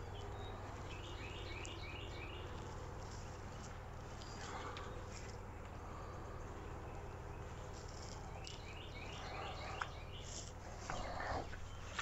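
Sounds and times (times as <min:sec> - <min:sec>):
bird chirping: 0:00.0 - 0:12.0
steady low hum: 0:00.0 - 0:12.0.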